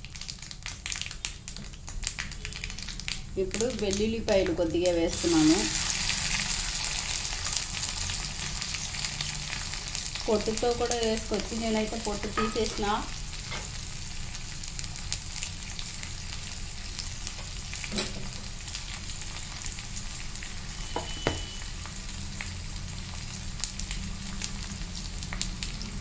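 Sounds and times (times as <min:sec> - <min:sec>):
spices sizzling in hot oil: 0:00.0 - 0:26.0.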